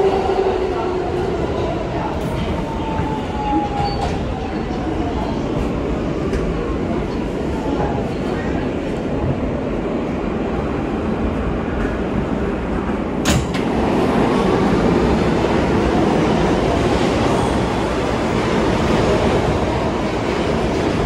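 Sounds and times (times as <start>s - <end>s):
subway rumble: 0.0s - 21.0s
train moving along platform: 0.0s - 21.0s.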